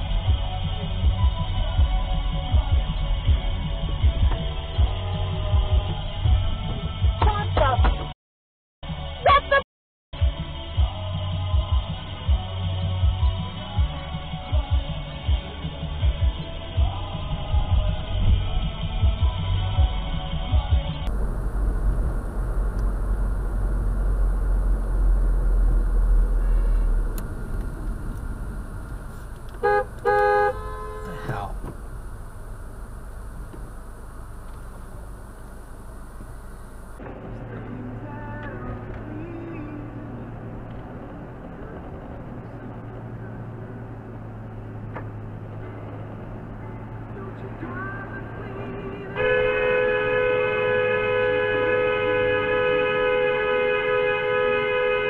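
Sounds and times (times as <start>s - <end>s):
car road noise rumble: 0.0s - 8.1s, 10.9s - 55.0s.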